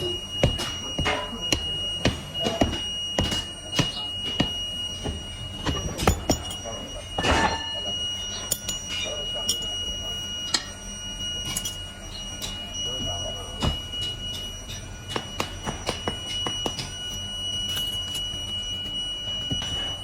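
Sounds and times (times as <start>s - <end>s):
high-pitched machine whine: 0.0s - 20.0s.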